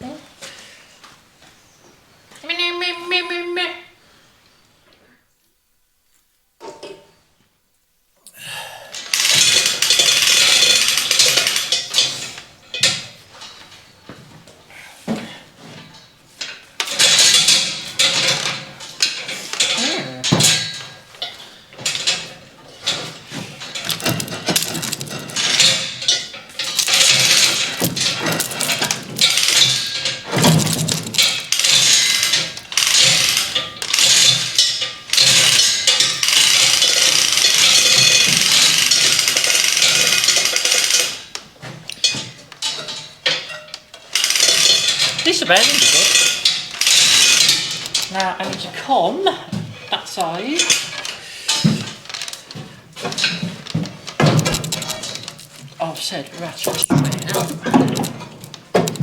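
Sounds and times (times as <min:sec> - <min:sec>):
hand tool clanking on metal: 0:09.0 - 0:13.9, 0:15.1 - 0:59.0.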